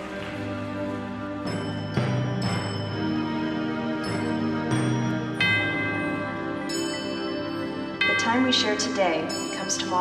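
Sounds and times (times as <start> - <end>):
percussion ensemble held chords: 0.0 - 10.0.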